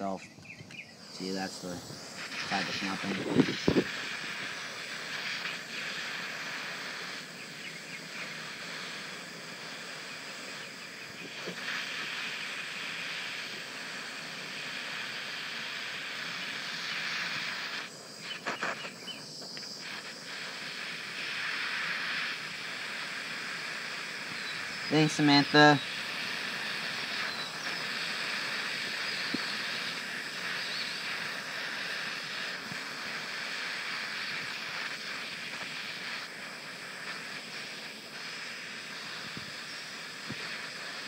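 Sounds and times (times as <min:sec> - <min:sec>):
gas torch flame hissing: 0:00.0 - 0:41.0.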